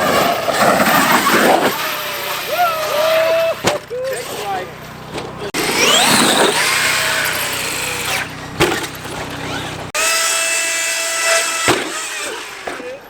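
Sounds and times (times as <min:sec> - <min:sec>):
electric motor whining: 0:00.5 - 0:13.0.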